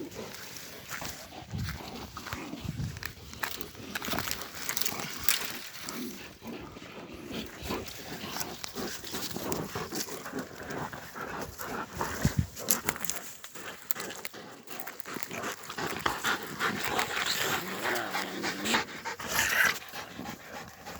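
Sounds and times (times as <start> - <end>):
dogs barking and snarling: 0.0 - 20.9
dogs panting: 0.0 - 20.9.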